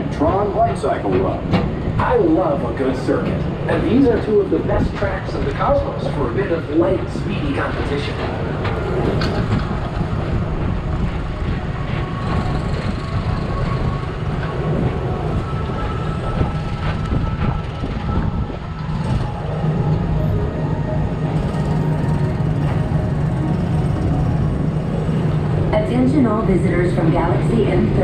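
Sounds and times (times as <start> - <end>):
ride car rumbling on track: 0.0 - 28.0.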